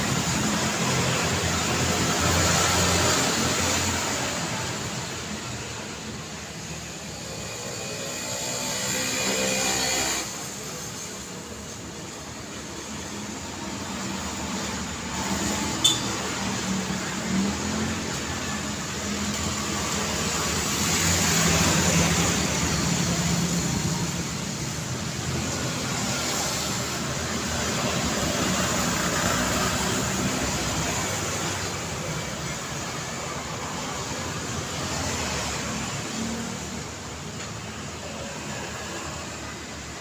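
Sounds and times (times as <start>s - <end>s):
busy road traffic: 0.0s - 40.0s.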